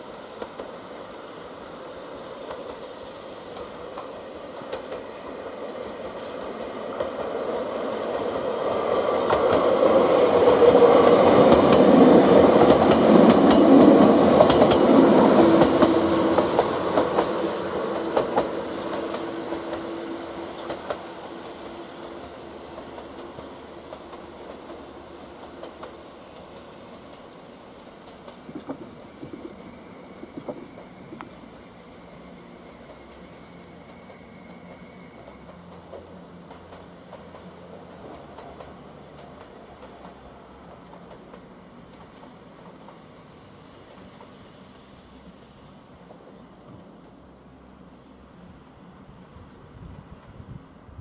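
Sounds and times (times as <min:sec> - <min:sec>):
electric train passing: 0:00.0 - 0:51.0
train wheels clacking over rail joints: 0:02.4 - 0:31.6, 0:32.3 - 0:44.6.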